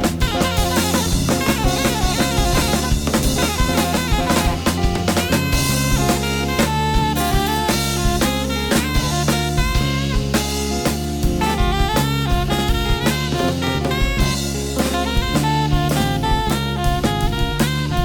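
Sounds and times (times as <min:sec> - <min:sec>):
alto saxophone melody: 0:00.0 - 0:18.0
drum kit: 0:00.0 - 0:18.0
electric bass line: 0:00.0 - 0:18.0.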